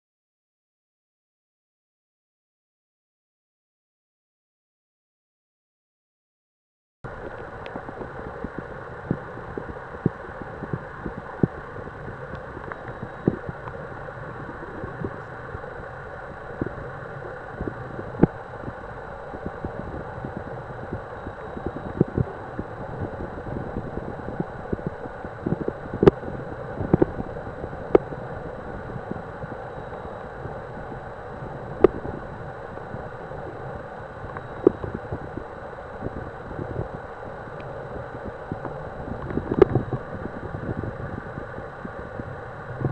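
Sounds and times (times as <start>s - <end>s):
muffled underwater hiss: 7.1s - 42.9s.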